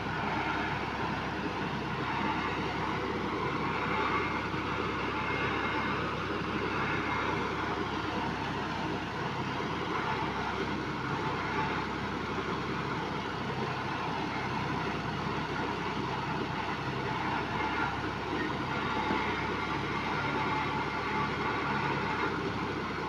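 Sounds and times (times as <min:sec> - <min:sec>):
machine engine humming: 0:00.0 - 0:23.0.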